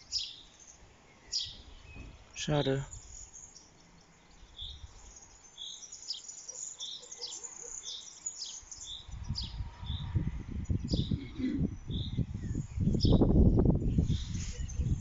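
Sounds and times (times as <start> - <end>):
songbird calling: 0.0 - 15.0.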